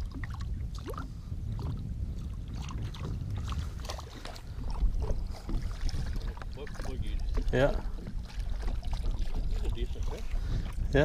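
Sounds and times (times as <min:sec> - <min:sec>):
steady low rumble: 0:00.0 - 0:11.0
waves lapping against boat: 0:00.0 - 0:11.0.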